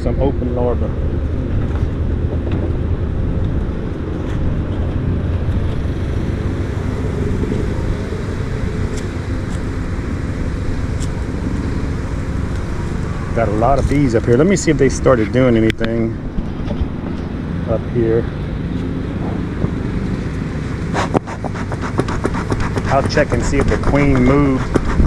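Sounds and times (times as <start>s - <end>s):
honeybees buzzing: 2.0s - 25.0s.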